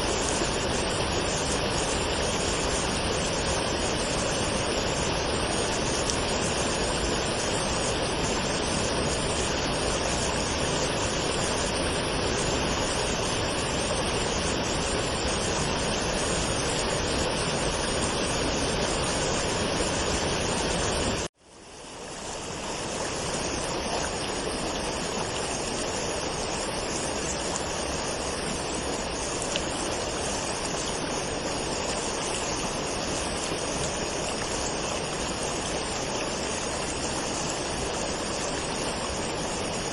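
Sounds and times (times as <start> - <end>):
waterfall rushing: 0.0 - 21.3, 22.1 - 39.9.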